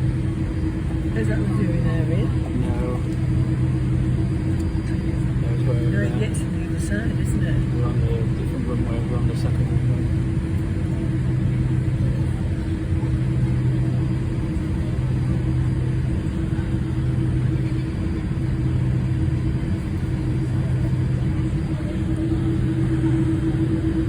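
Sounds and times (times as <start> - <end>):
engine rumble with droning hum: 0.0 - 24.0.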